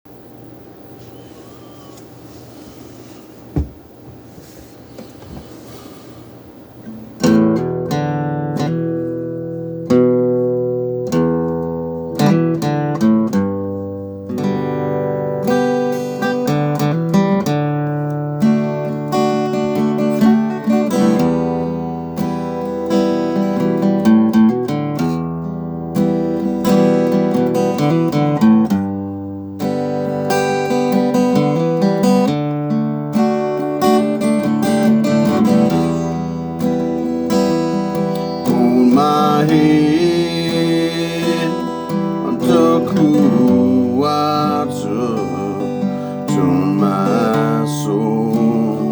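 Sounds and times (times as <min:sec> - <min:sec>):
acoustic guitar chords: 0:05.7 - 0:48.9.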